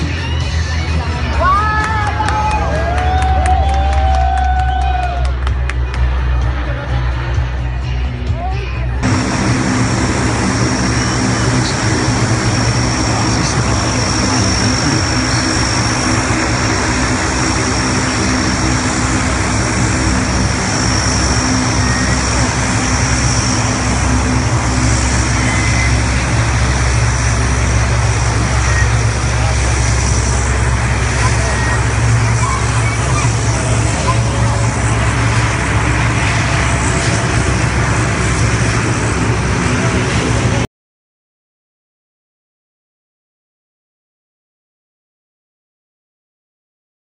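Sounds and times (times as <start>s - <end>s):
high engine whine: 0.0s - 40.7s
propeller drone: 0.0s - 40.7s.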